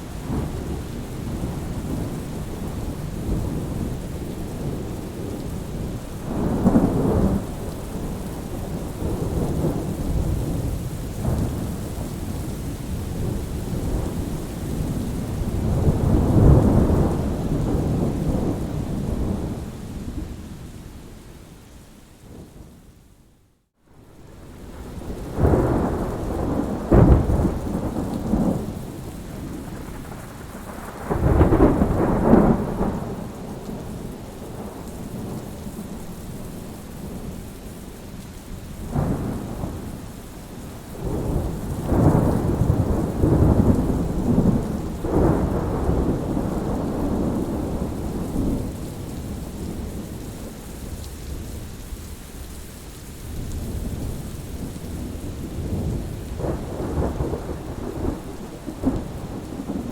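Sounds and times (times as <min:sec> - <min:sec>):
steady rain: 0:00.0 - 0:59.9
rolling thunder: 0:00.2 - 0:20.4, 0:24.2 - 0:37.4, 0:38.9 - 0:51.5, 0:53.3 - 0:59.9.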